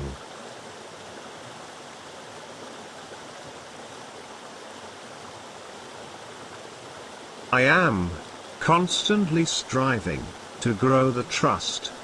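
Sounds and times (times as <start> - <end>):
water rushing over boulders: 0.0 - 12.0.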